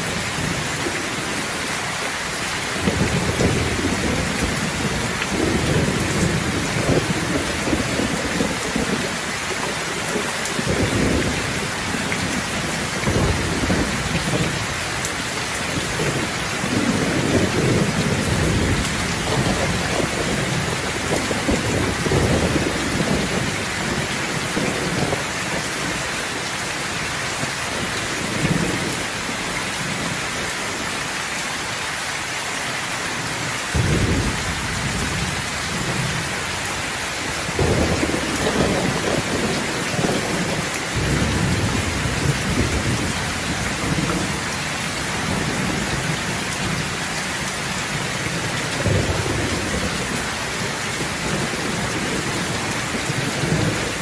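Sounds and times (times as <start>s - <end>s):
steady rain falling: 0.0s - 54.0s
thunder rumbling: 2.7s - 27.0s, 27.7s - 30.2s, 33.7s - 54.0s.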